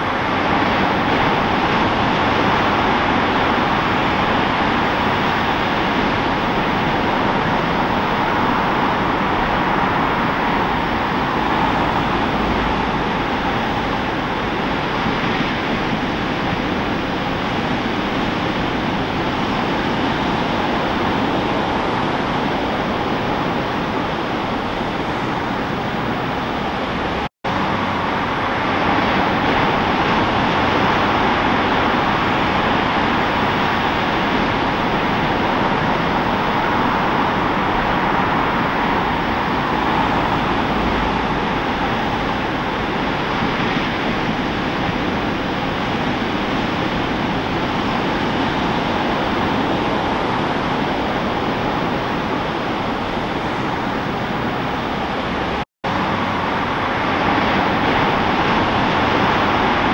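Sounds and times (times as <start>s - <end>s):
large waves breaking: 0.0s - 59.9s.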